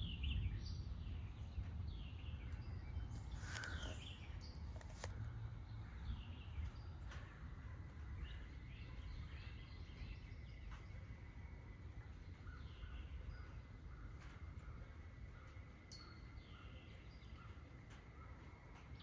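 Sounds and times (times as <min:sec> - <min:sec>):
wind buffeting microphone: 0:00.0 - 0:15.6
birds chirping: 0:00.0 - 0:19.0.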